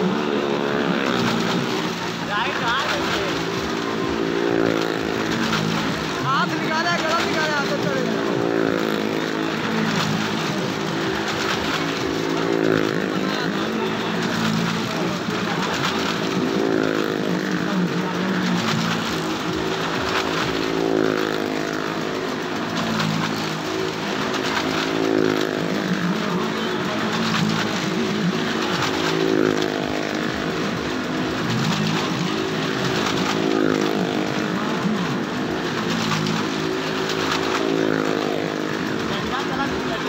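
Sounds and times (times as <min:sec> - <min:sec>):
steady engine drone: 0:00.0 - 0:40.0
vehicle engines sweeping past: 0:00.0 - 0:40.0.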